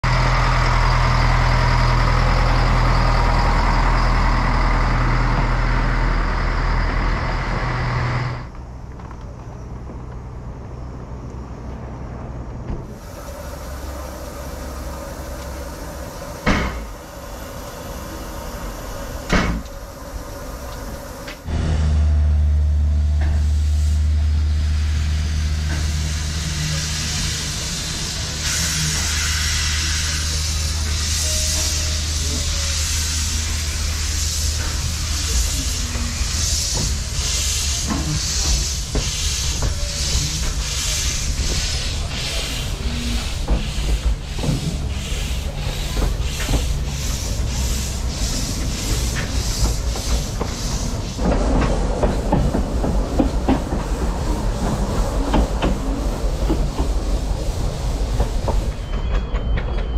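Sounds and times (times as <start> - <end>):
locomotive humming: 0.0 - 59.9.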